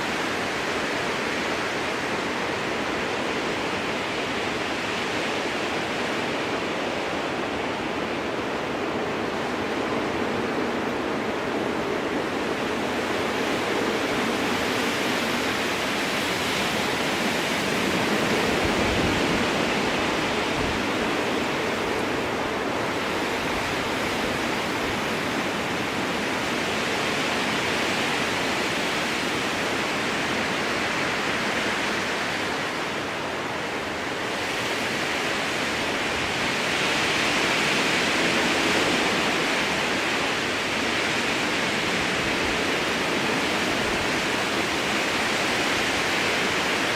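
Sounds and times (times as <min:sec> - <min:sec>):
strong wind through trees: 0:00.0 - 0:46.9.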